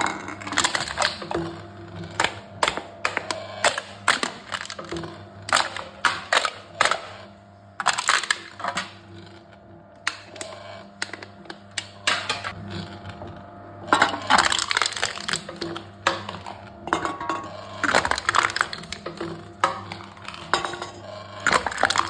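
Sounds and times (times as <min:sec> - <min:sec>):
cans crushed by machine: 0:00.0 - 0:07.2, 0:07.8 - 0:09.0, 0:10.0 - 0:12.9, 0:13.8 - 0:22.0.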